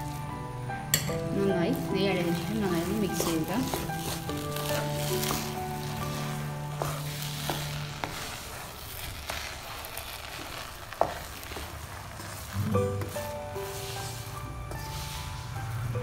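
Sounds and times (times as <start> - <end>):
rice sizzling in a pot: 0.0 - 16.0.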